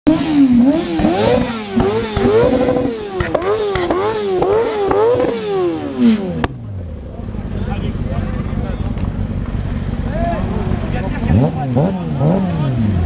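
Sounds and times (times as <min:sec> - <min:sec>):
exhaust cracks: 0:00.1 - 0:13.0
motorcycle engine revving: 0:00.1 - 0:13.0.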